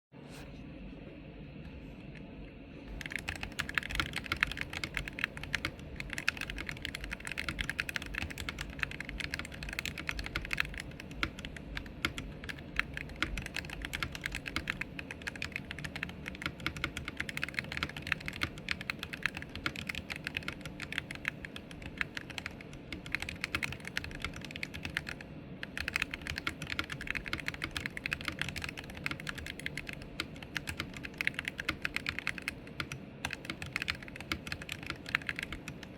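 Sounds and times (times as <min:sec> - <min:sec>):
mechanical keyboard typing: 0:02.9 - 0:35.9.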